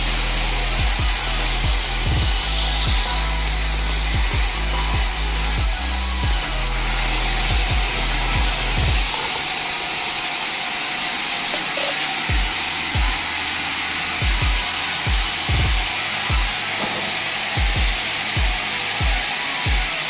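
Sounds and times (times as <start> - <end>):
background music with low beat: 0.0 - 9.4, 11.8 - 20.0
band saw cutting timber: 0.0 - 20.0.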